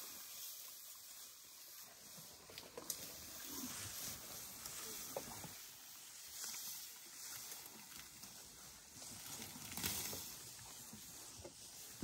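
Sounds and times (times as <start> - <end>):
leaves rustling: 0.0 - 12.0.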